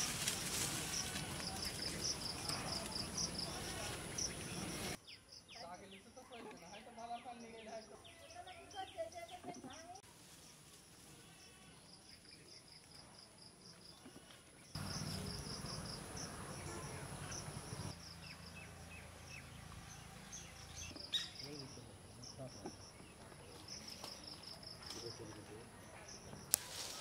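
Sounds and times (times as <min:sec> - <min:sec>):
insects chirping: 0:00.0 - 0:26.6.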